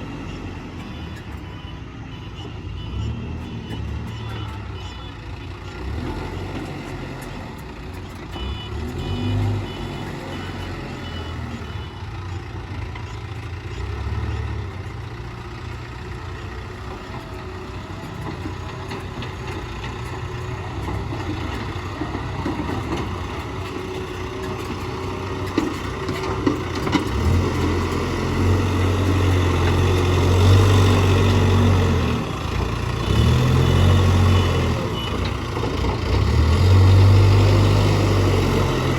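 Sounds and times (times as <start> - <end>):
reversing alarm beeping: 0.0 - 7.3, 8.2 - 14.8, 20.2 - 38.9
diesel engine under load: 0.0 - 38.9.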